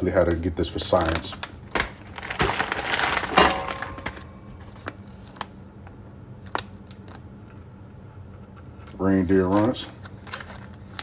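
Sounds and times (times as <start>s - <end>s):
steady low hum: 1.4s - 11.0s.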